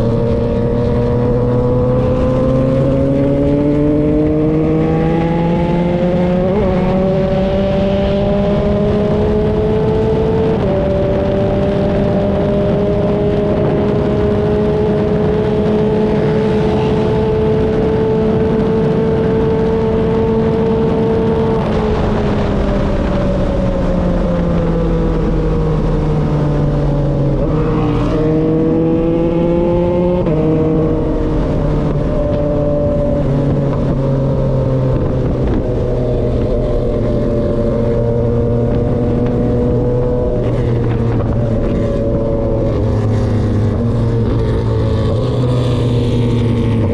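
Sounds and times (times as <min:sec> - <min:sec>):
motorcycle engine while riding: 0:00.0 - 0:46.9.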